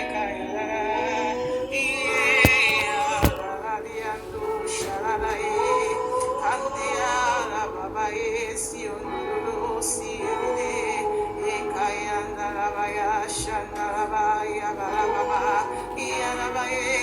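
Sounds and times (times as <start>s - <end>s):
person singing wordless melody: 0.0s - 17.0s.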